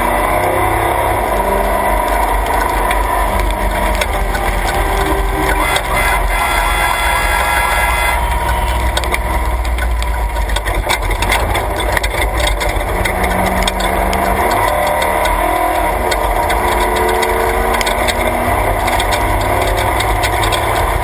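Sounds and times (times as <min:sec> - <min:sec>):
cab rattles and clicks: 0:00.0 - 0:21.0
truck engine accelerating: 0:00.0 - 0:21.0.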